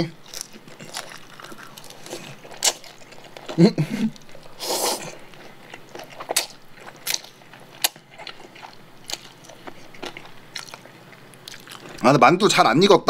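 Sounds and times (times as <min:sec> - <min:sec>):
person slurping and chewing noodles: 0:00.3 - 0:12.0.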